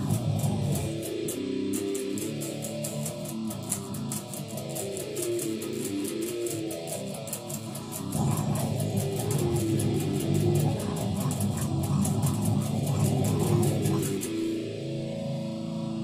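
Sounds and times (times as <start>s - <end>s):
fast steady beat: 0.0s - 14.7s
electric guitar riff: 0.0s - 16.0s.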